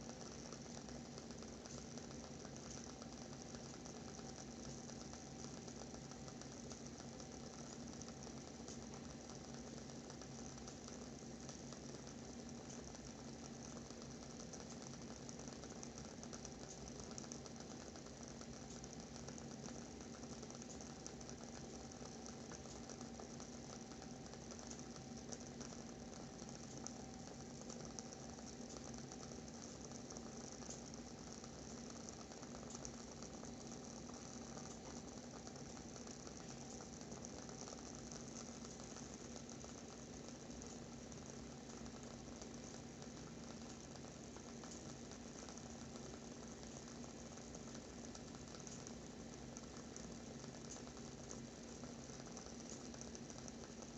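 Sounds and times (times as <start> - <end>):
candle wick crackling: 0.0 - 53.9
low steady hum: 0.0 - 53.9.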